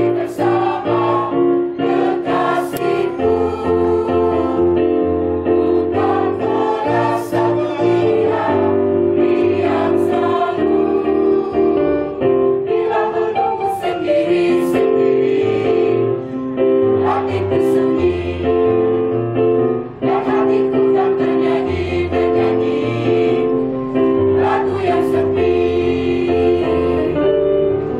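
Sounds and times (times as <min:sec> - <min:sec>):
mixed choir singing in harmony: 0:00.0 - 0:19.2, 0:20.0 - 0:27.9.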